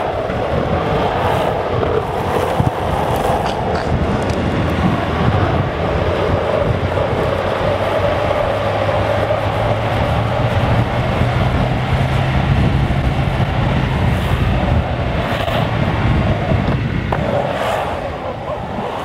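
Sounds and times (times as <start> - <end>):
skateboard wheels rolling on asphalt: 0.0 - 19.0
wind across microphone: 0.0 - 19.0.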